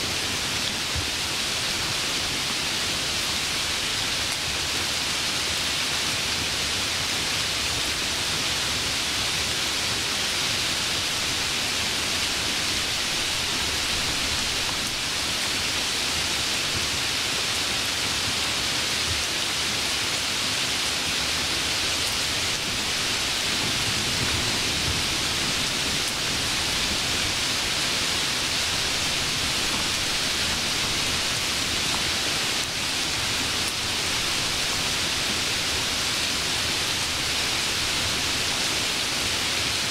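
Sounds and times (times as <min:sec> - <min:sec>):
steady hiss of noise: 0:00.0 - 0:39.9.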